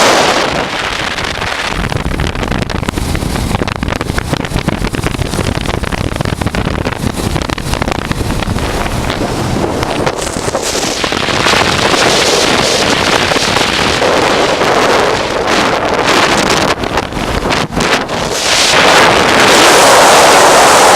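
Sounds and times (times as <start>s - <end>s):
motorcycle engine: 0.0s - 20.9s
road noise: 0.0s - 20.9s
wind rushing over microphone: 0.0s - 20.9s.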